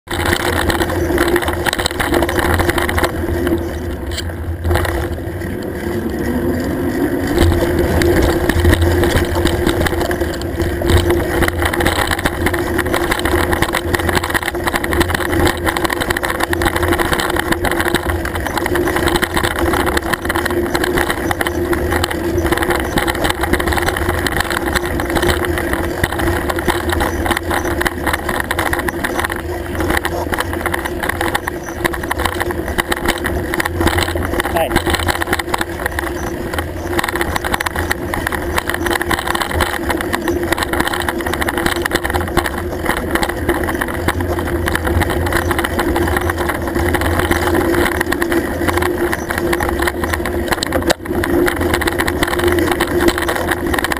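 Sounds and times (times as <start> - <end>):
bike tyres rumbling and rattling: 0.0 - 53.9
steady hum: 0.1 - 53.9.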